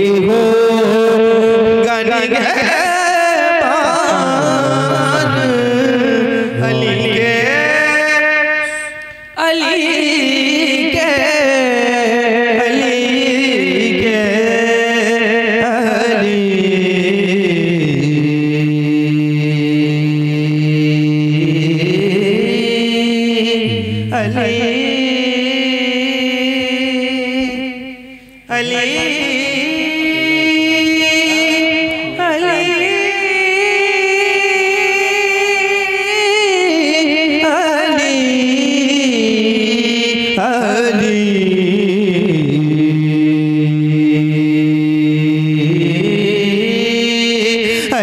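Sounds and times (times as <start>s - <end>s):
man singing devotional verse: 0.0s - 48.0s.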